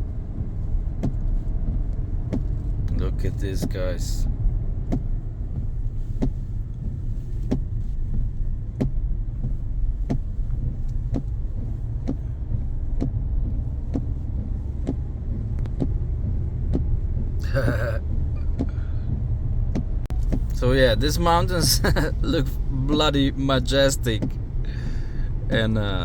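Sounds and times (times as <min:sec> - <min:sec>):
vehicle cabin rumble: 0:00.0 - 0:26.0.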